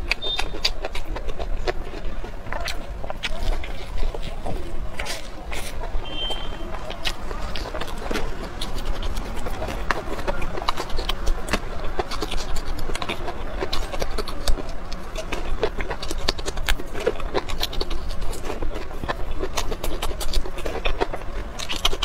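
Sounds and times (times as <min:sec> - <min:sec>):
chewing and crunching: 0:00.0 - 0:22.0
wet mouth clicks and smacks: 0:00.0 - 0:22.0.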